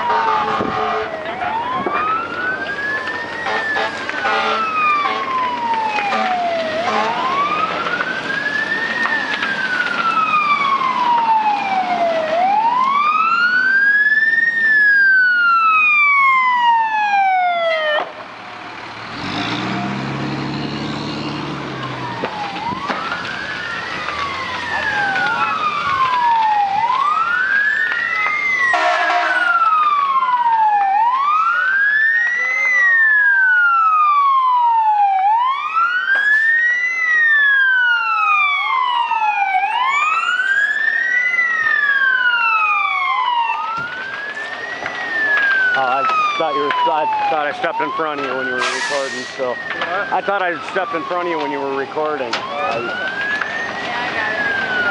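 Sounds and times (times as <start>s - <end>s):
diesel engine rumbling: 0.0s - 54.9s
fire engine sirens wailing: 0.0s - 54.9s.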